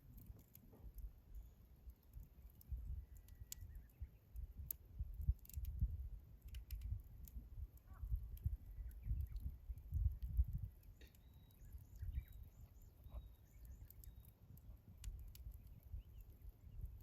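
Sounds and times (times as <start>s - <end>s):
sharp pops and snaps: 0.0s - 1.1s, 1.8s - 12.5s, 13.5s - 17.0s
campfire crackling: 0.0s - 17.0s.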